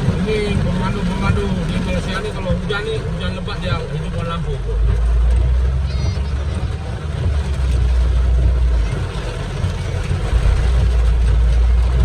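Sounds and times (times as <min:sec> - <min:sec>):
car rumbling on the road: 0:00.0 - 0:12.0.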